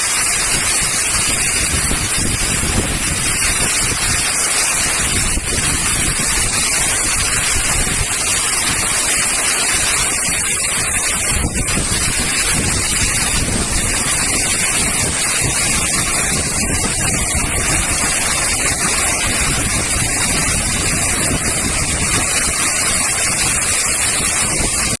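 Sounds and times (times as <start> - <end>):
torrential rain rushing: 0.0 - 25.0.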